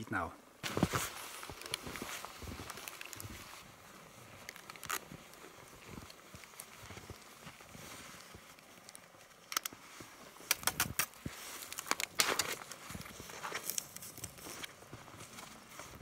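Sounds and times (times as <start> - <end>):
scraping crunching in snow: 0.6 - 9.2, 11.1 - 16.0
faint rustling: 0.6 - 16.0.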